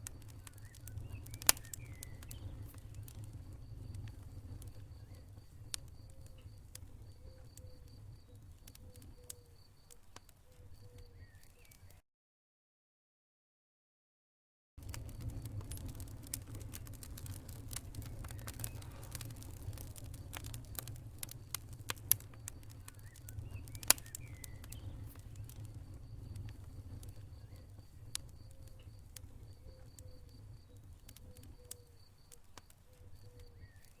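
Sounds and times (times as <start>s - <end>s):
campfire crackling and popping: 0.0s - 12.0s, 14.8s - 34.0s.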